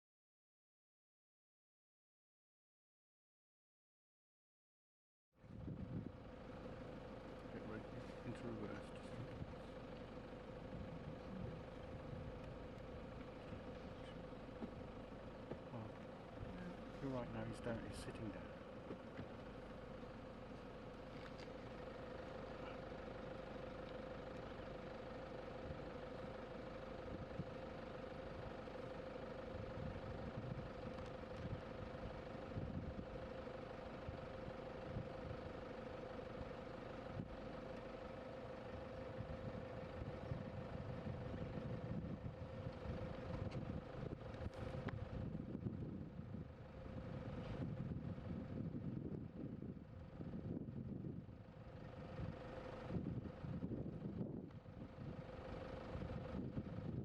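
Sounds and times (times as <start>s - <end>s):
vehicle engine idling: 5.4s - 57.0s.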